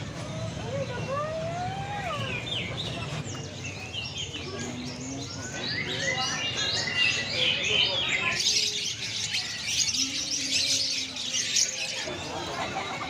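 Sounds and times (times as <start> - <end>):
small birds chirping: 0.1 - 12.3.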